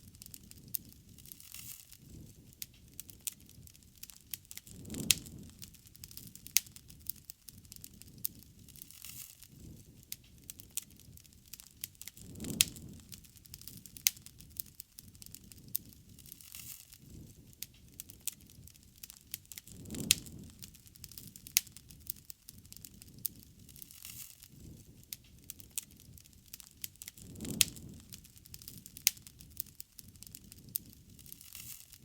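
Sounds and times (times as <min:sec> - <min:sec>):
low rumble of flame: 0:00.0 - 0:32.0
wood fire crackling and popping: 0:00.0 - 0:32.0.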